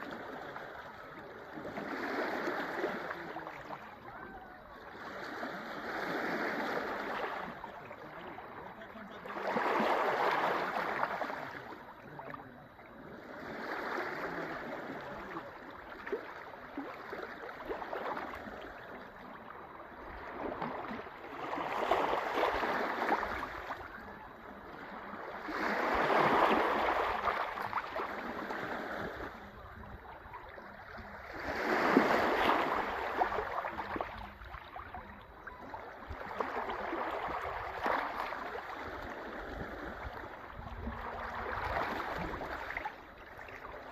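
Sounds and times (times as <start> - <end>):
sea waves washing onto shore: 0.0 - 12.6, 13.2 - 43.9.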